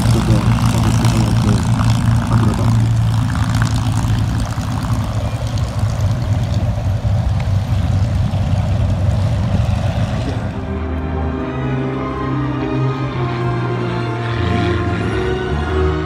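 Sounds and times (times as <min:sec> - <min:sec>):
propeller engines idling: 0:00.0 - 0:16.0.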